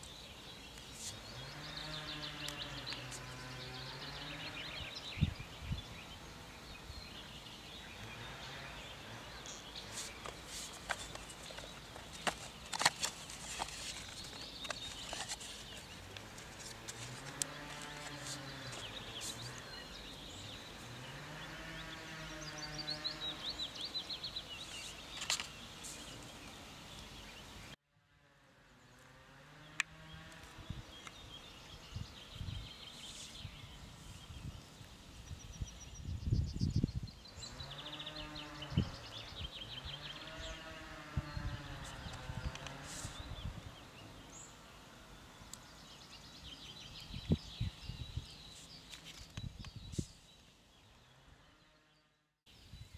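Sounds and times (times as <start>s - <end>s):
faint birdsong: 0.0s - 52.9s.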